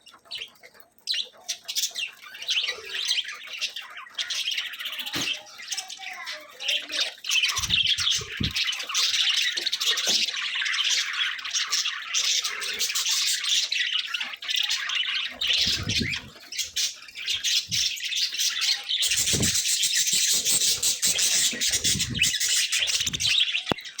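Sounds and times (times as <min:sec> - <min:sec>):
budgerigars chattering and squawking: 0:00.0 - 0:24.0.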